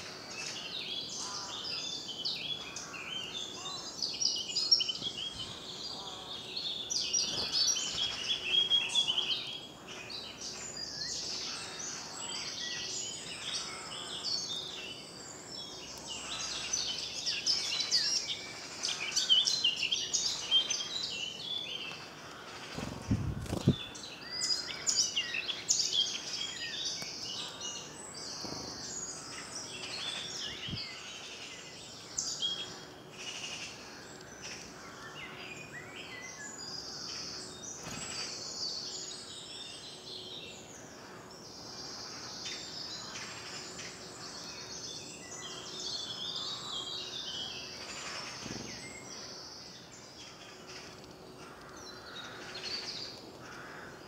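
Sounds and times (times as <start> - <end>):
songbirds chorus: 0.0 - 54.0.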